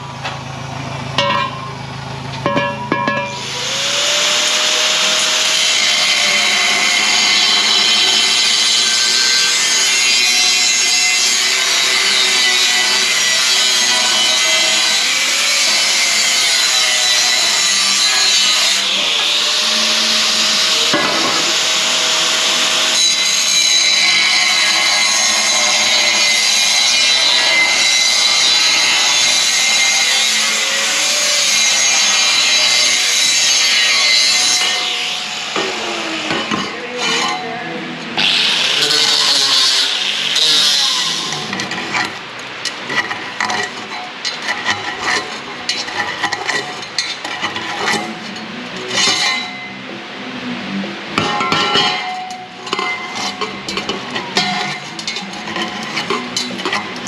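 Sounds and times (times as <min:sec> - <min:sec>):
power tool grinding steel pipe: 0:02.4 - 0:49.9, 0:51.2 - 0:57.0.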